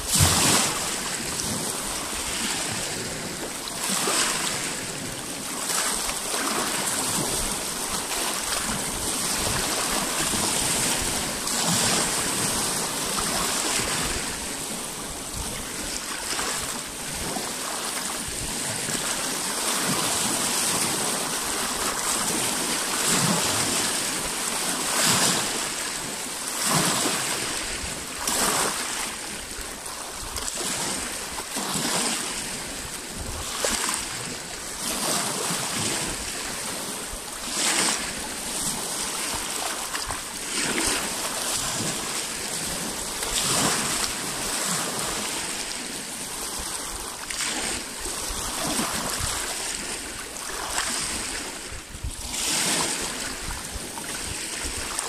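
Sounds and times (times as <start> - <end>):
waves lapping on rocky shore: 0.0 - 55.0.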